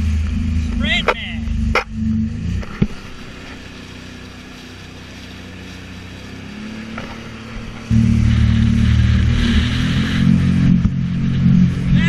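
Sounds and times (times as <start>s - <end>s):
jet ski engine: 0.0s - 12.0s.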